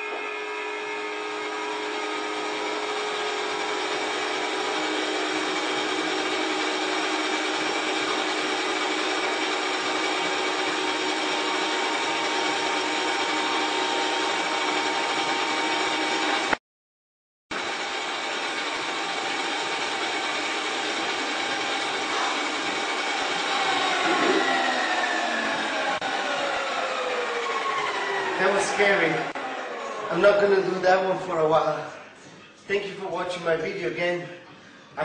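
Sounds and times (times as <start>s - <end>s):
table saw whirring: 0.0s - 16.6s, 17.5s - 32.0s.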